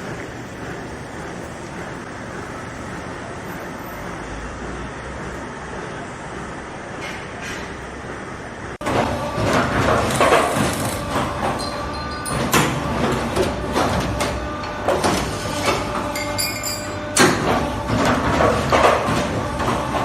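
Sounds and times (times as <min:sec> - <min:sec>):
machine mechanical hum: 0:00.0 - 0:20.0.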